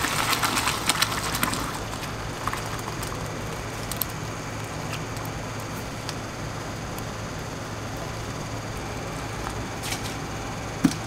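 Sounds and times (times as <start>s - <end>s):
kitchen mechanical hum and hiss: 0.0s - 11.0s.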